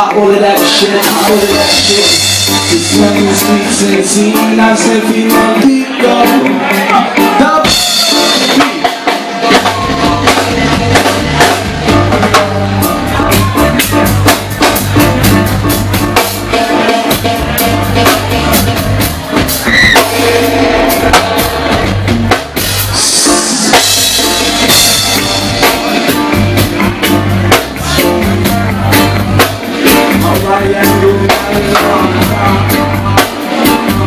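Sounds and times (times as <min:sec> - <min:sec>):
bass guitar: 0:00.0 - 0:34.0
drum kit: 0:00.0 - 0:34.0
electric guitar: 0:00.0 - 0:34.0
reggae band playing: 0:00.0 - 0:34.0.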